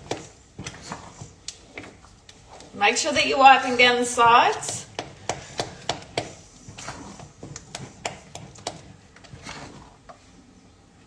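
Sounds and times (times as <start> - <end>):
utensil scraping a saucepan: 0.0 - 10.4.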